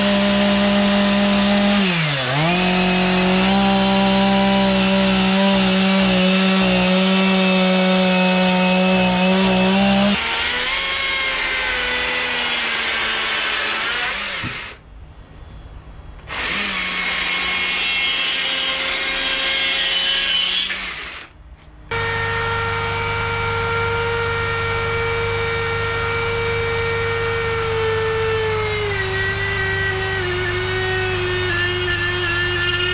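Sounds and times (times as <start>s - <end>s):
chainsaw carving wood: 0.0s - 14.8s, 16.3s - 21.3s, 21.9s - 32.9s.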